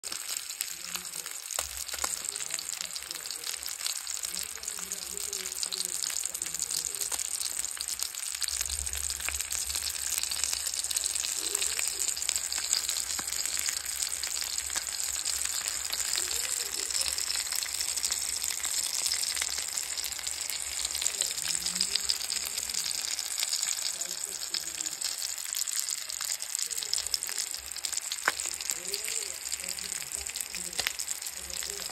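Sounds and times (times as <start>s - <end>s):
fish frying in oil: 0.0s - 31.9s.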